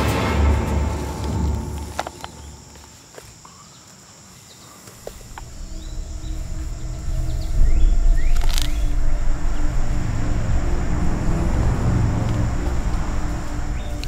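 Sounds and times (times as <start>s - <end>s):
low rumble: 0.0s - 3.0s, 5.1s - 14.0s
high insect drone: 0.0s - 14.0s.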